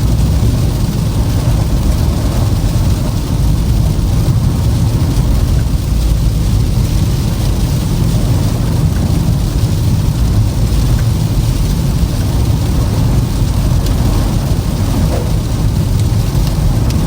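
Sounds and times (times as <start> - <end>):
car tyre and road rumble: 0.0 - 17.0.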